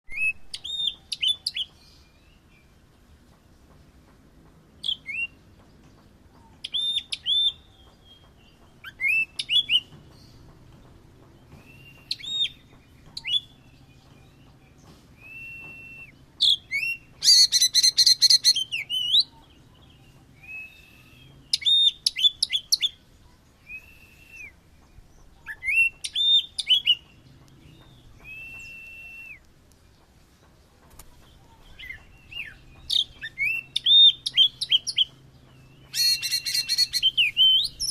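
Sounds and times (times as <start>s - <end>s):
songbird singing trills and whistles: 0.1s - 2.8s, 4.8s - 10.5s, 11.3s - 30.1s, 31.2s - 37.9s.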